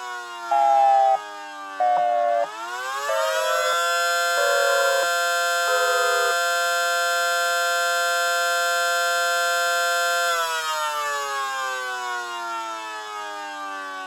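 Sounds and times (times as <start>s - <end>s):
outdoor warning sirens wailing: 0.0s - 14.0s.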